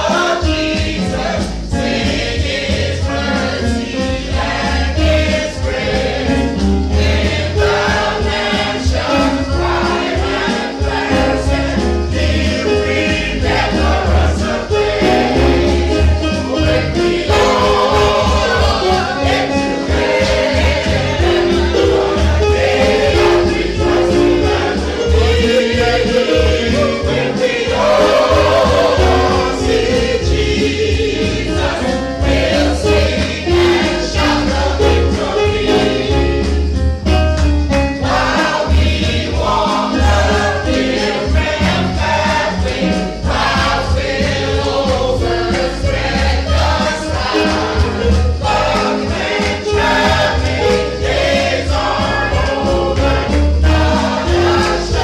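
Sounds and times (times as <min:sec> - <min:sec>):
choir singing: 0:00.0 - 0:36.7, 0:38.0 - 0:55.0
band playing: 0:00.0 - 0:55.0
pulsing bass beat: 0:04.4 - 0:48.8.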